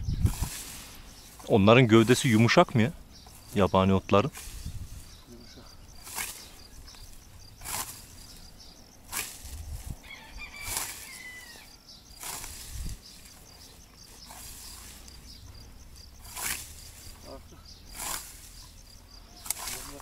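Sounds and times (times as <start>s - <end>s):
scythe swishing through grass: 0.0s - 2.6s, 4.3s - 5.3s, 6.0s - 20.0s
faint insect chirping: 0.0s - 20.0s.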